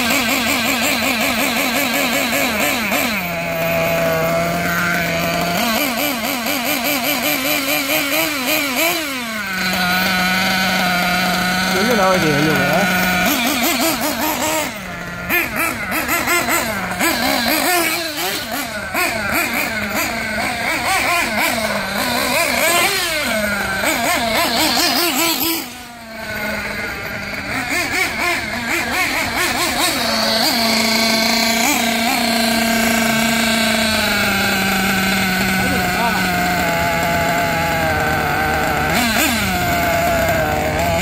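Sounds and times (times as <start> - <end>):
small model engine buzzing: 0.0 - 41.0.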